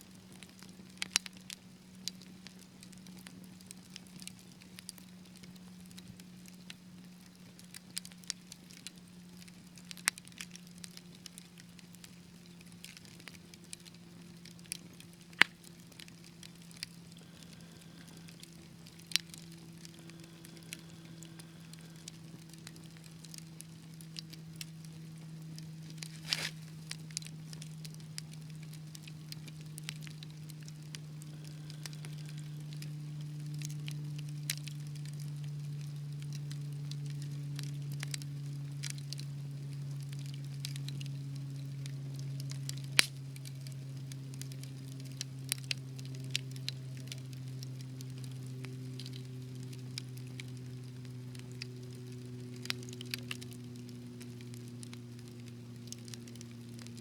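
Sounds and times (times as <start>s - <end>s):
steady low hum: 0.0s - 57.0s
wood fire crackling: 0.0s - 57.0s.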